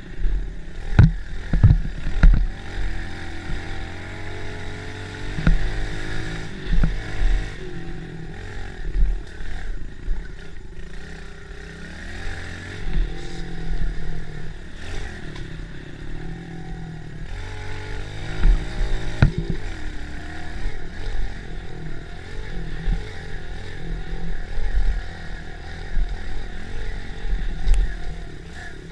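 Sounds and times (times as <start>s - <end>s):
minibike engine revving: 0.0s - 28.9s.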